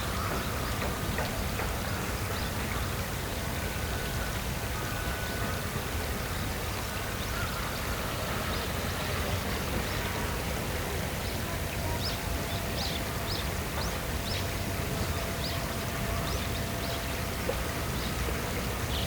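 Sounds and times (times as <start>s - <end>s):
flowing water hiss: 0.0s - 19.0s.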